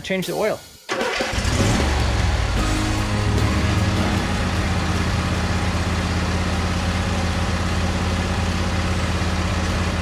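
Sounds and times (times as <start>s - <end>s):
riding mower engine running: 1.0s - 10.0s.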